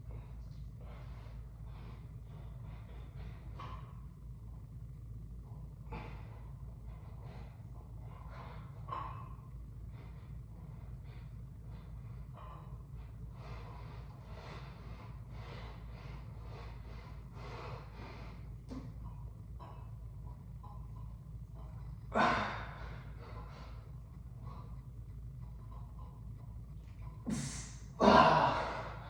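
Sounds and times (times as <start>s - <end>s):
man breathing hard: 0.0s - 4.0s, 5.8s - 19.9s, 21.6s - 25.6s, 27.3s - 29.0s
low steady hum: 0.0s - 29.0s.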